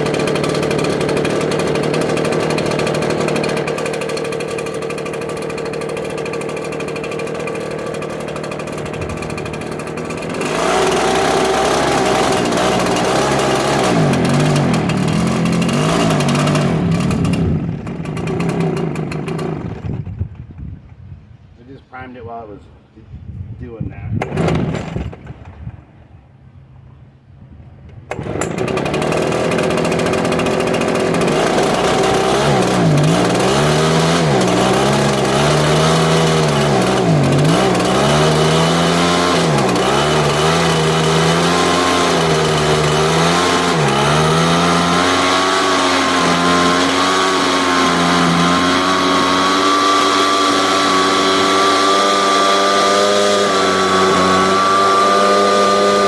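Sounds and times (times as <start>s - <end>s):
leaf blower engine running: 0.0s - 20.4s, 28.1s - 56.0s.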